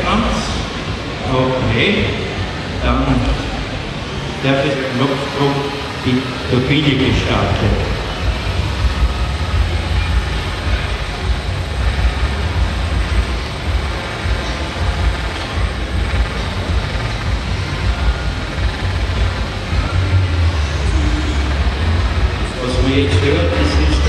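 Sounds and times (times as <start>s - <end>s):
small gas turbine engine running: 0.0s - 24.0s.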